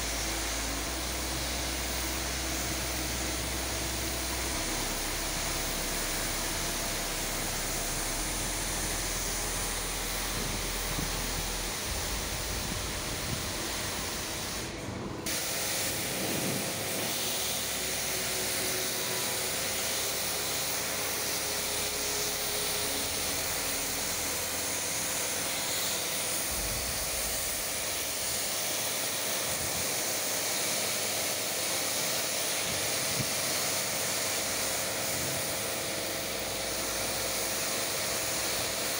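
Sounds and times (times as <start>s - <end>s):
pressure washer spraying stone floor: 0.0s - 38.9s.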